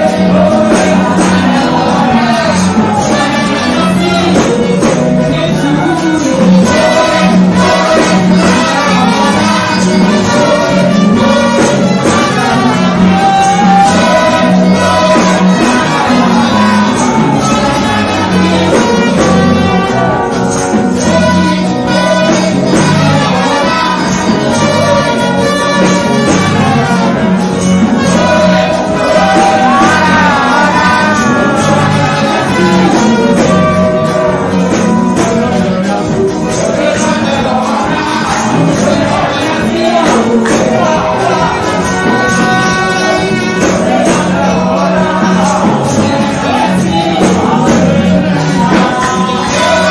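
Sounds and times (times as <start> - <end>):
band with steady beat: 0.0 - 49.9
man singing: 0.0 - 49.9.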